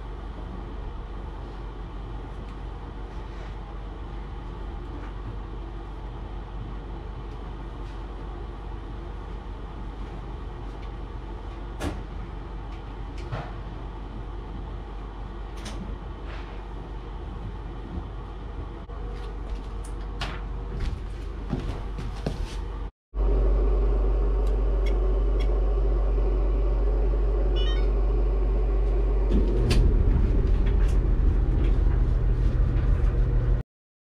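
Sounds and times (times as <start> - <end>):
low mechanical hum: 0.0 - 33.6.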